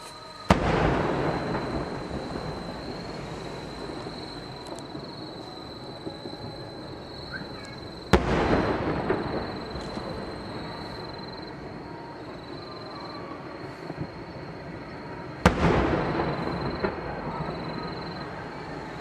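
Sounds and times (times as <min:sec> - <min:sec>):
distant fireworks bangs: 0:00.0 - 0:19.0.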